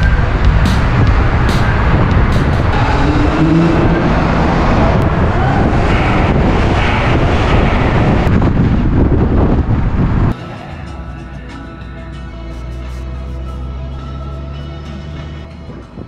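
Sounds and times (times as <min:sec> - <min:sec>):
car engine: 0:00.0 - 0:15.8
road noise inside car: 0:00.0 - 0:16.0.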